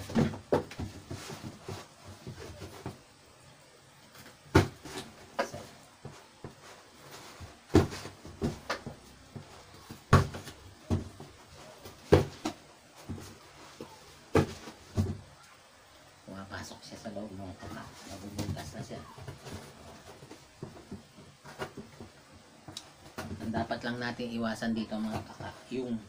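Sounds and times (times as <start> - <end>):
plastic tubs and cardboard knocking: 0.0 - 3.0, 4.1 - 15.4, 17.3 - 26.0.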